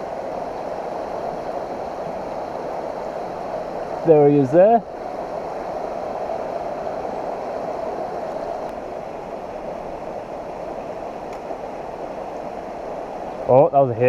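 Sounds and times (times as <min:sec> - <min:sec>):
mountain stream flowing water: 0:00.0 - 0:14.0.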